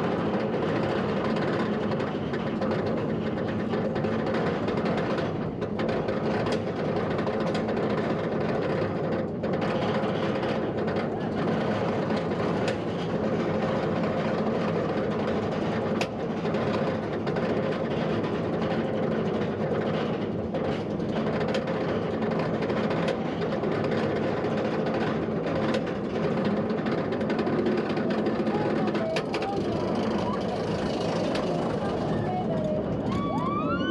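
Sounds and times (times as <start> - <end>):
roller coaster chain lift clattering: 0.0 - 33.9.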